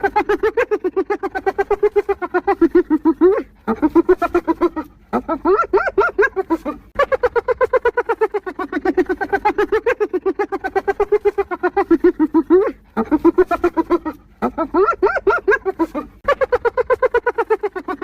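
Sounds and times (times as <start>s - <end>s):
hyena giggling whoops: 0.0s - 18.0s.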